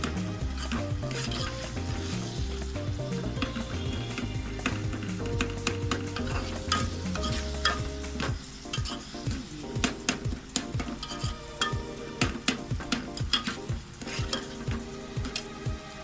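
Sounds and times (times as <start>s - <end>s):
spoon clinking and scraping pot: 0.0s - 2.4s, 3.4s - 9.2s, 10.0s - 15.5s
frying sizzle: 0.0s - 16.0s.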